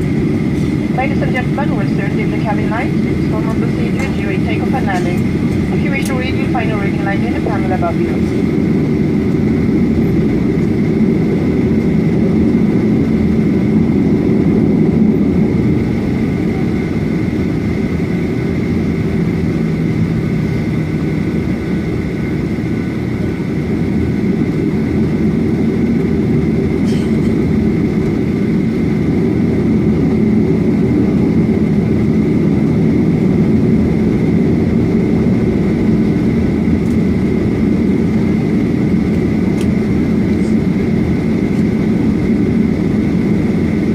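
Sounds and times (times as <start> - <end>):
aircraft cabin engine drone: 0.0 - 43.9.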